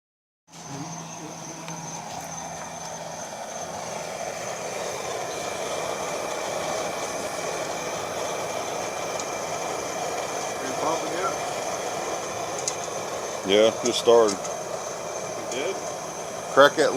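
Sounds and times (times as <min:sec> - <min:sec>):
gas burner rushing: 0:00.5 - 0:16.9.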